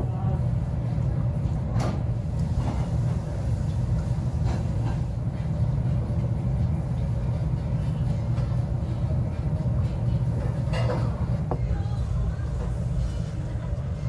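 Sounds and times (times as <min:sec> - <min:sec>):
restaurant room rumble: 0:00.0 - 0:14.0.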